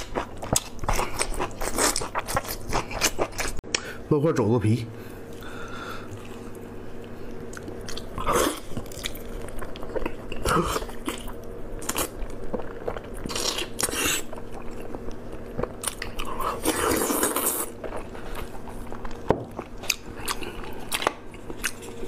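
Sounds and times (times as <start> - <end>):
chewing and biting pork skin: 0.0 - 3.6, 7.5 - 22.0.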